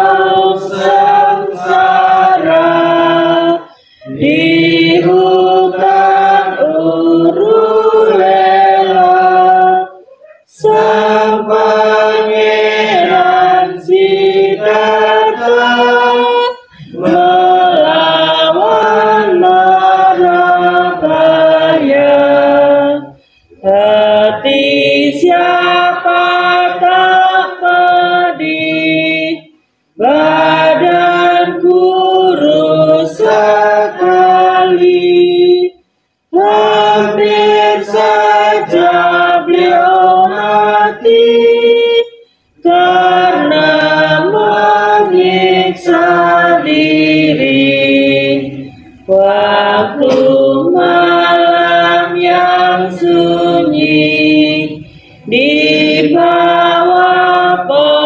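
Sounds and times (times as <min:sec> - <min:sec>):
group singing devotional song: 0:00.0 - 0:58.0.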